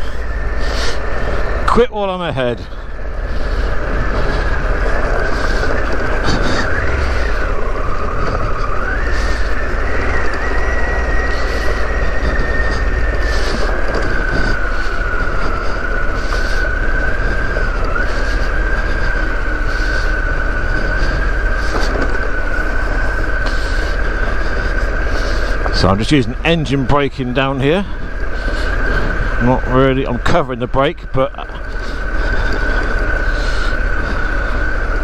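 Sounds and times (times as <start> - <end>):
motorcycle engine braking whine: 0.0 - 35.0.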